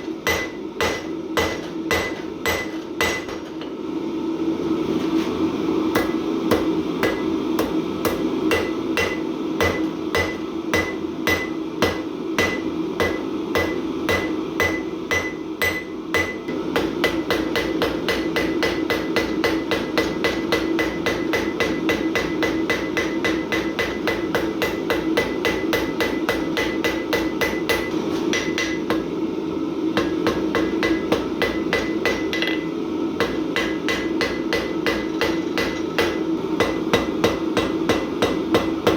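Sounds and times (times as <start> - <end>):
hammer striking steel on anvil: 0.0 - 3.8, 5.9 - 29.2, 30.0 - 38.9
steady low hum: 0.0 - 38.9.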